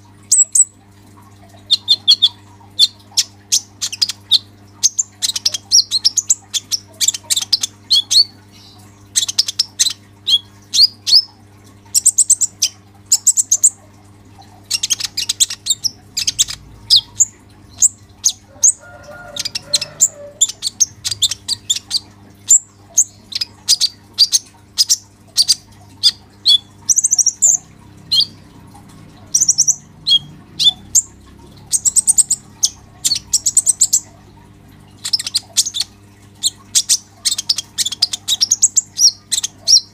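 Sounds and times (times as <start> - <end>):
low electrical hum: 0.0 - 39.9
bird chirps and trills: 0.3 - 0.8, 1.5 - 13.8, 14.5 - 34.3, 34.9 - 39.9.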